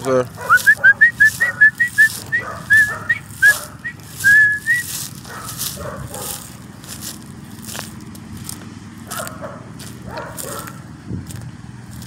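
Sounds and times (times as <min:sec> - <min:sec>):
scuffling in dry leaves: 0:00.0 - 0:12.0.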